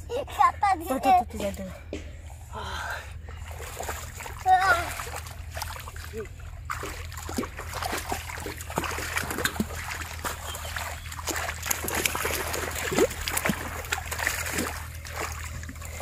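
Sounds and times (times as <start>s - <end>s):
muddy water splashing: 2.6s - 16.0s.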